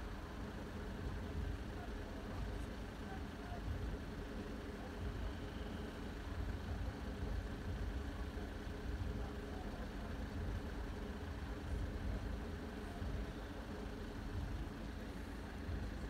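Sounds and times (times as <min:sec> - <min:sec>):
engines idling low rumble: 0:00.0 - 0:16.0.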